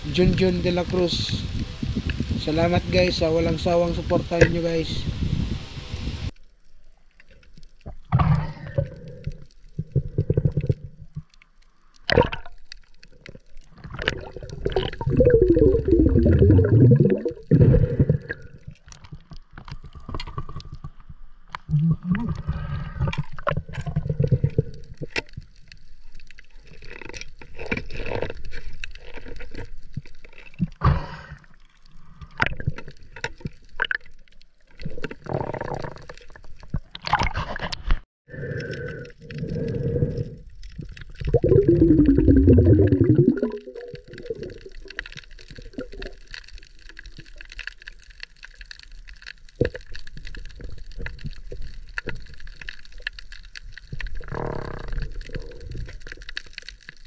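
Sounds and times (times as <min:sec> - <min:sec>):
water sloshing and gurgling: 0:06.4 - 0:57.0.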